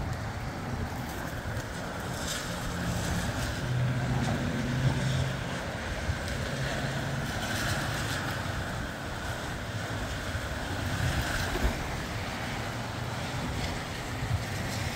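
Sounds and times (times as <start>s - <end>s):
gusty wind on microphone: 0.0s - 14.9s
rain: 0.0s - 14.9s.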